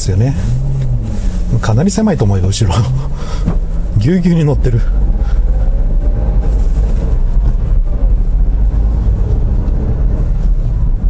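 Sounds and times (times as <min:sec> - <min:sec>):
car engine running: 0:00.0 - 0:11.0
road noise: 0:00.0 - 0:11.0.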